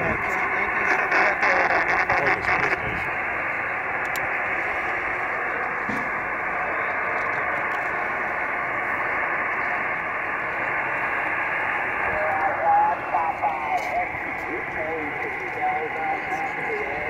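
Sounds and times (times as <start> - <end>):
radio receiver hiss: 0.0 - 17.0.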